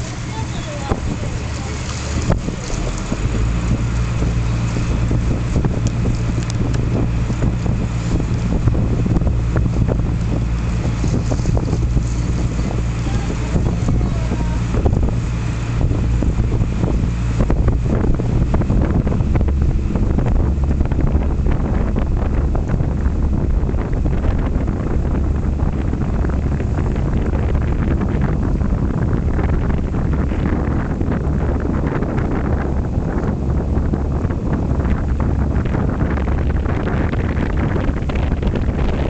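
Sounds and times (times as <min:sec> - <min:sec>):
ferry engine droning: 0:00.0 - 0:39.0
wind buffeting microphone: 0:00.0 - 0:39.0.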